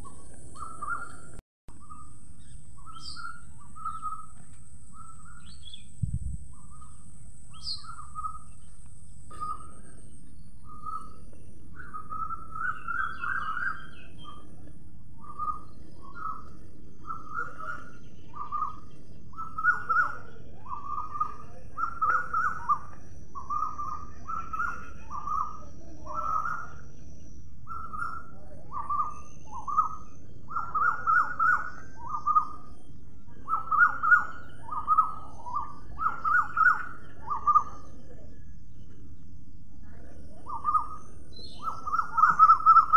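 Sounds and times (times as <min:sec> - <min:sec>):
sparrows chirping: 0:00.0 - 0:42.9.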